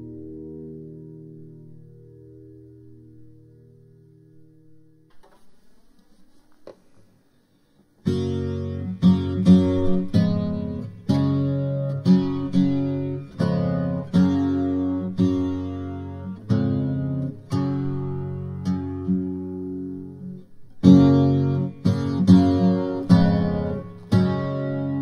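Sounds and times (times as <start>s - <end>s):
acoustic guitar strumming: 0.0s - 5.6s, 8.0s - 25.0s.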